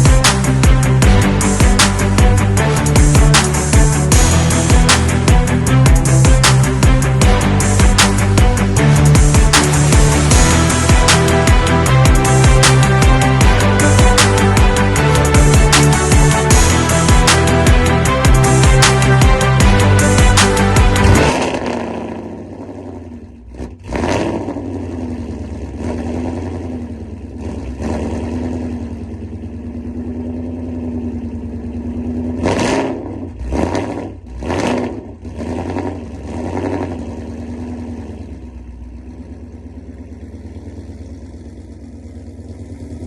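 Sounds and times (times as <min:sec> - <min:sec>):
car engine idling and revving: 0:00.0 - 0:43.0.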